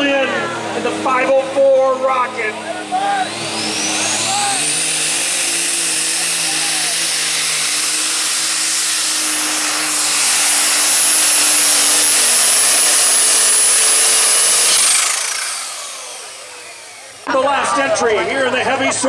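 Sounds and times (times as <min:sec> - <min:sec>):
high-pitched turbo whine: 0:00.0 - 0:18.9
diesel tractor engine at full throttle: 0:00.0 - 0:19.0.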